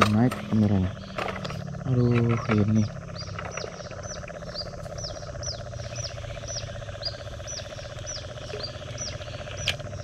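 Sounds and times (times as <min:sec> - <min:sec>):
bird chirping: 0:00.0 - 0:10.0
fast-pulsing trill: 0:00.4 - 0:10.0.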